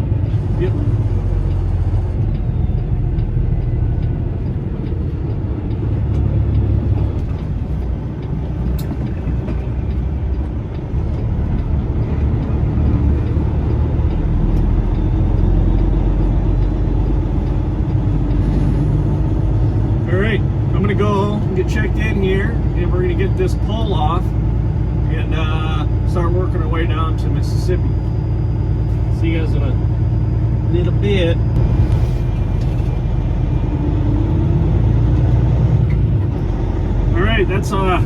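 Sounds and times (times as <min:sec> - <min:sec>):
truck diesel engine rumbling: 0:00.0 - 0:38.0.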